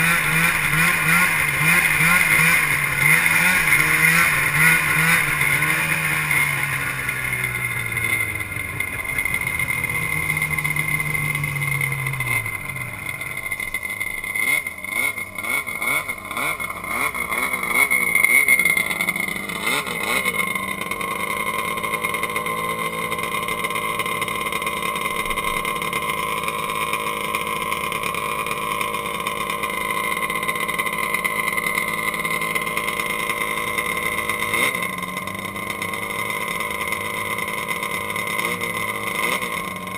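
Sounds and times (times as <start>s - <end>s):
snowmobile engine revving and idling: 0.0s - 39.9s.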